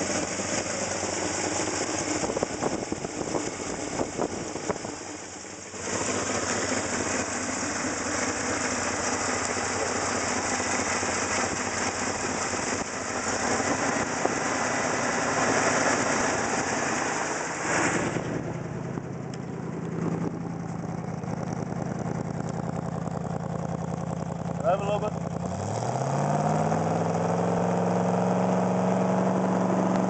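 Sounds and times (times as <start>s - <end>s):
pickup engine idling: 0.0s - 25.6s.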